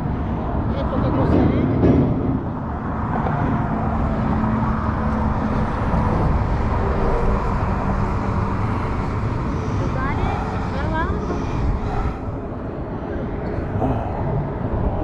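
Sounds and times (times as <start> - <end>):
faint engine hum: 0.0 - 15.0
road traffic rumble: 0.0 - 15.0.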